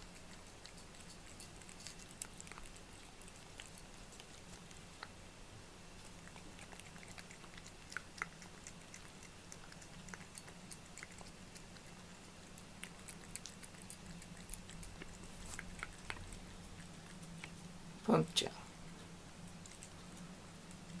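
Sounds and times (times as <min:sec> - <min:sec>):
cat licking and chewing food: 0:00.0 - 0:21.0.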